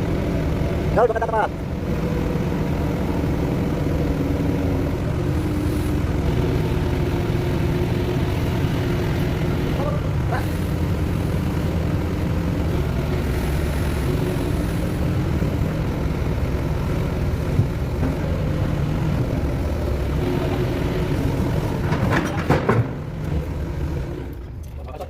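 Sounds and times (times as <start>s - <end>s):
heavy engine running: 0.0s - 25.0s.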